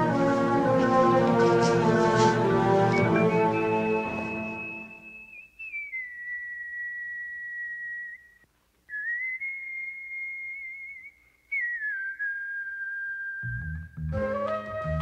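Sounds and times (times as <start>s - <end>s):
person whistling sliding notes: 1.5s - 15.0s.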